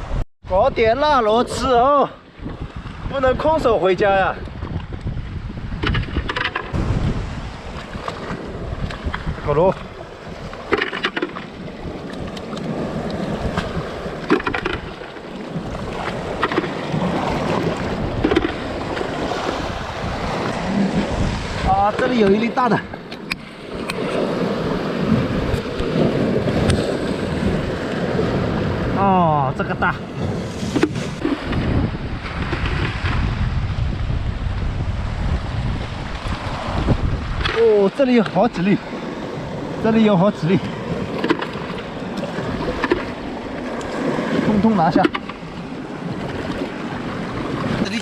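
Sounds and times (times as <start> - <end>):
sea surf: 0.0 - 48.0
wind buffeting microphone: 0.0 - 48.0.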